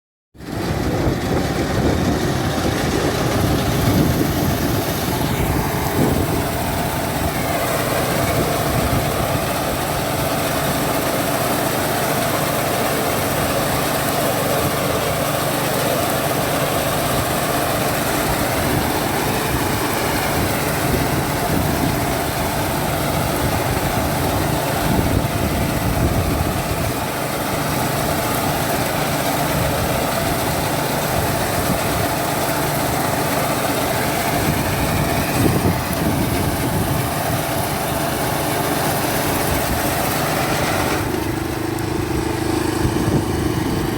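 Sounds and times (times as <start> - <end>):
small engine running steadily: 0.4 - 43.9.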